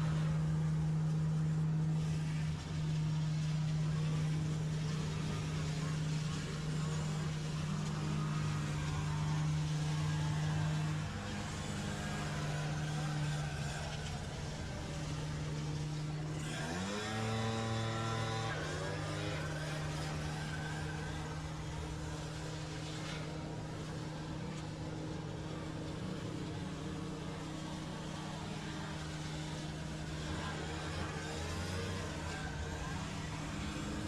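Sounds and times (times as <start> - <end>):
engine running and revving: 0.0 - 34.0.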